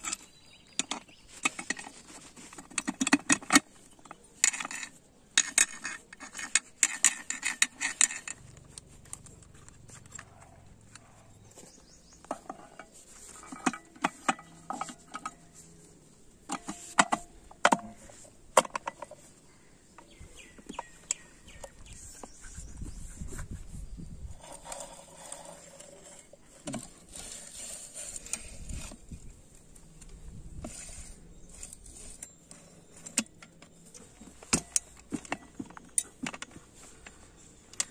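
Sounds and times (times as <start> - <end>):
tools and engine parts clinking: 0.0 - 22.3, 24.3 - 37.9.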